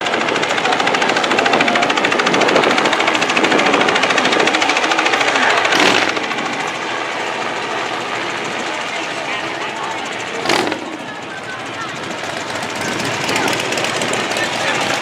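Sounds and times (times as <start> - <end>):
helicopter rotor blades thudding: 0.0 - 15.0.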